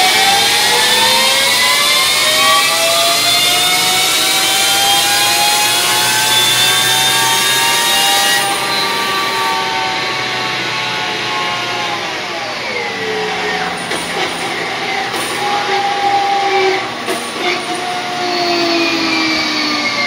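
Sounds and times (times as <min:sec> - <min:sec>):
electric motor whine: 0:00.0 - 0:20.0.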